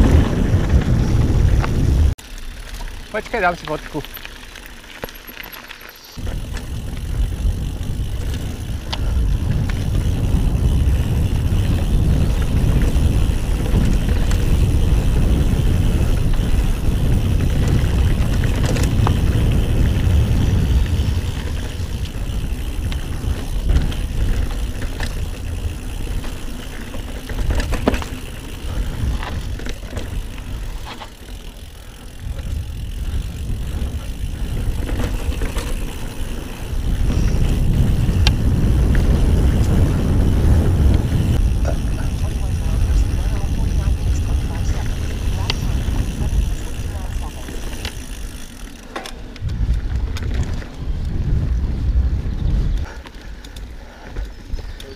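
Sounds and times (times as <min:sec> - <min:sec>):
wind buffeting microphone: 0:00.0 - 0:02.2, 0:06.2 - 0:48.8, 0:49.4 - 0:54.9
bike clicks and rattles: 0:00.0 - 0:54.9
tyres rumbling on dirt trail: 0:00.0 - 0:54.9.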